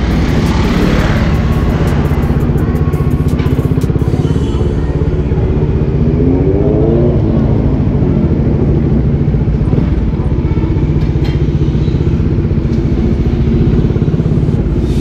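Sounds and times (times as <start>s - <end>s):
engine revving: 0.0s - 10.2s, 10.8s - 15.0s
motorcycle engine running: 0.0s - 15.0s.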